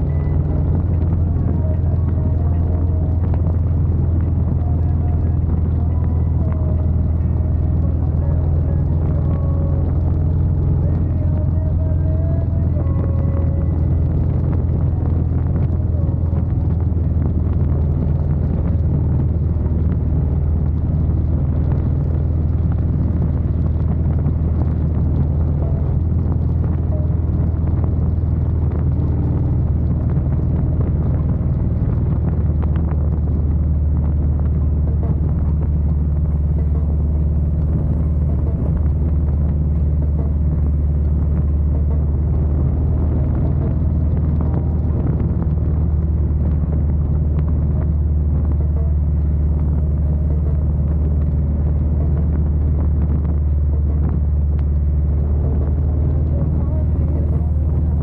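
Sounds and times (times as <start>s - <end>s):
motorcycle engine droning: 0.0s - 58.0s
road and wind noise: 0.0s - 58.0s.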